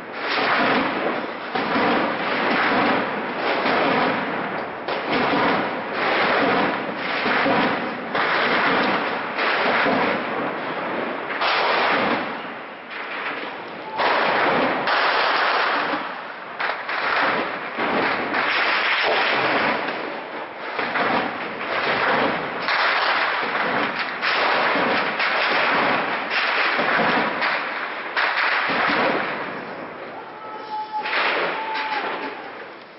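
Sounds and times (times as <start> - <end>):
heavy automatic gunfire: 0.0 - 30.0.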